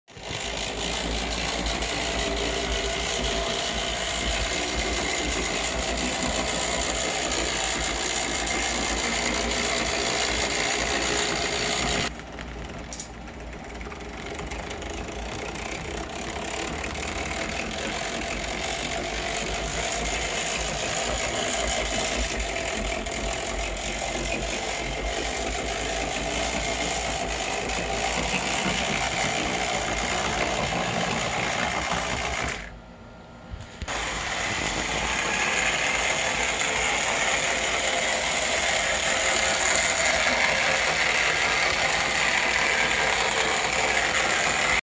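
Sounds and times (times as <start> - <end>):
model train gears whirring: 0.1 - 32.8, 33.8 - 44.8.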